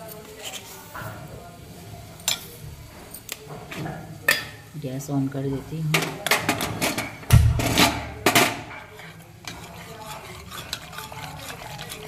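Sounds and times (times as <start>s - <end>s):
ladle stirring and scraping a pot: 0.0s - 4.7s, 5.9s - 12.0s.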